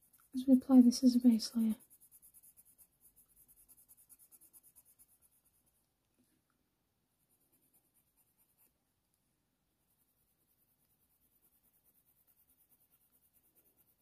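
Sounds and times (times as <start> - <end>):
pencil scratching on paper: 0.0 - 5.8, 7.2 - 8.8, 9.8 - 14.0.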